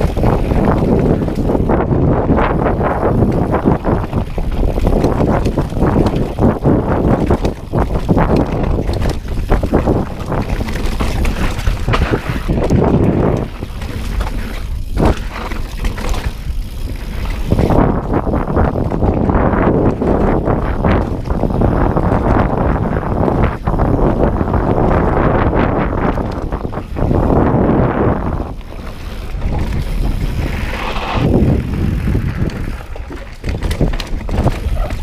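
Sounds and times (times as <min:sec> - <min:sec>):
bike knocks and rattles: 0:00.0 - 0:35.0
tyres rumbling on dirt: 0:00.0 - 0:35.0
wind buffeting microphone: 0:00.0 - 0:35.0.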